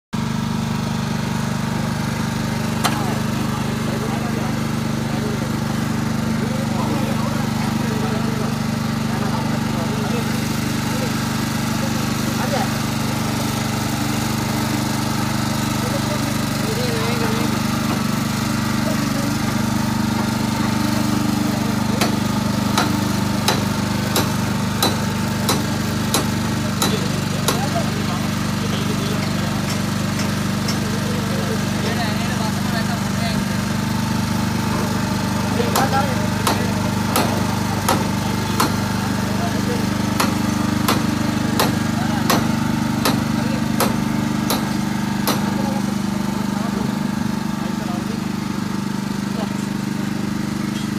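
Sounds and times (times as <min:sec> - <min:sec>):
small engine running: 0:00.2 - 0:50.9.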